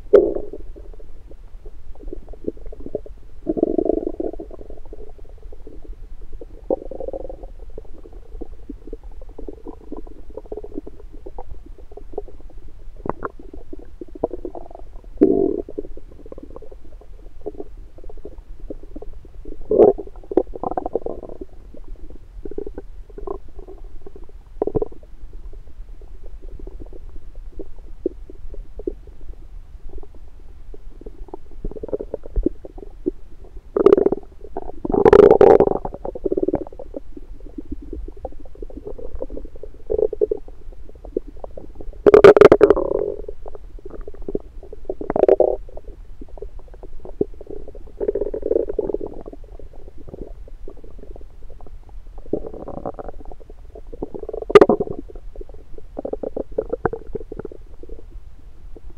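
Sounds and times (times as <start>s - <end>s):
stomach gurgling: 0.0s - 58.9s.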